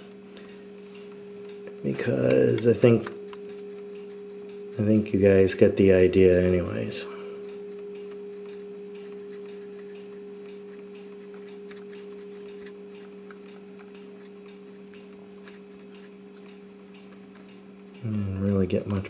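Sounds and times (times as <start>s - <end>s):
low two-tone hum: 0.0s - 19.0s.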